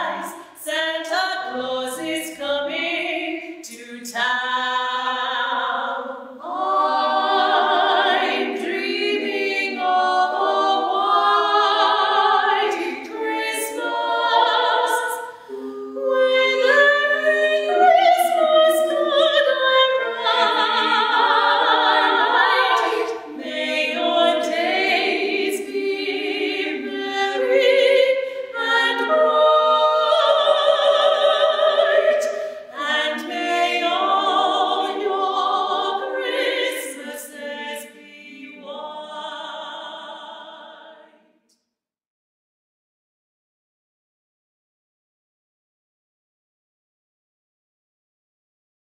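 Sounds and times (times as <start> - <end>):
women singing in close harmony: 0.0 - 41.3.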